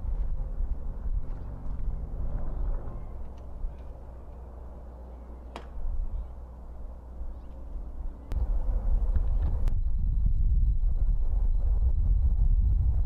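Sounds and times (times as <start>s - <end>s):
wind rumbling on microphone: 0.0s - 4.6s, 5.7s - 13.0s.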